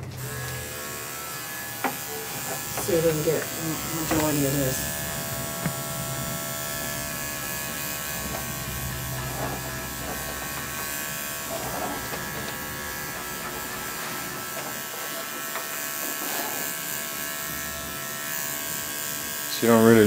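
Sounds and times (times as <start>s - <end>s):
electric dog clipper humming: 0.0s - 20.0s.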